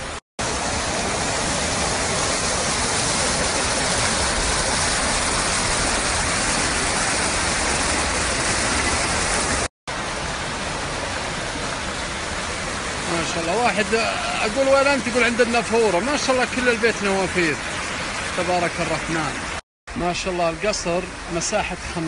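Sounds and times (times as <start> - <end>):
fountains splashing: 0.0 - 22.0.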